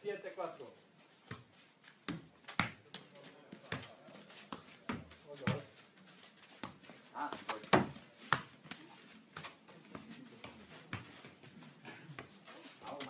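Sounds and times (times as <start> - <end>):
ball kicked and headed: 1.2 - 5.8, 6.4 - 12.4.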